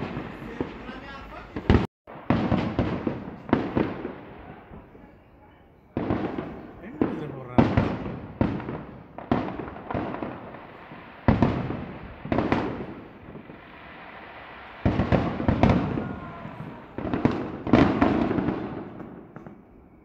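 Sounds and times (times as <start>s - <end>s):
firework bangs echoing: 0.0s - 20.0s.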